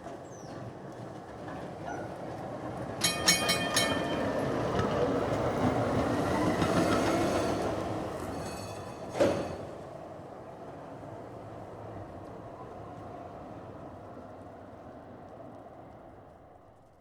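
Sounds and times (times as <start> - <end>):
tram wheels clattering over rail joints: 0.0 - 13.6
rumble of steel wheels on rail: 0.0 - 17.0.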